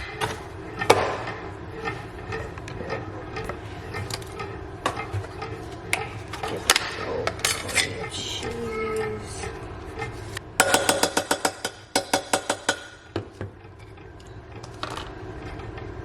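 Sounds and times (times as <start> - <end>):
utensils and dishes clattering: 0.0 - 16.0.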